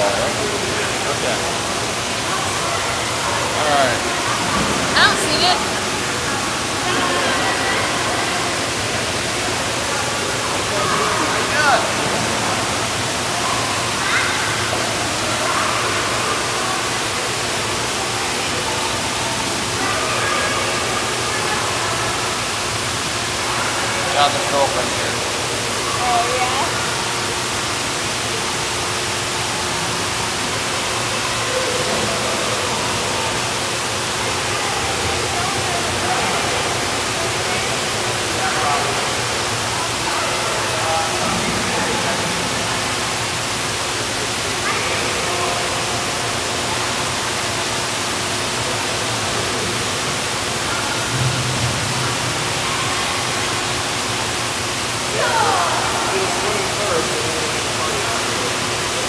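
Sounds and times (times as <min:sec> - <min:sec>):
swimming pool water rushing: 0:00.0 - 0:59.0.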